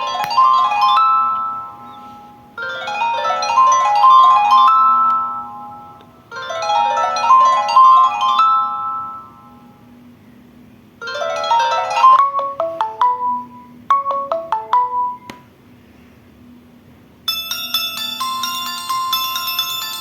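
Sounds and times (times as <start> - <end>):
bright chiming ringtone: 0.0 - 9.8, 11.0 - 15.3, 17.3 - 20.0
phone ringtone melody: 0.0 - 9.8, 11.0 - 15.4, 17.3 - 20.0.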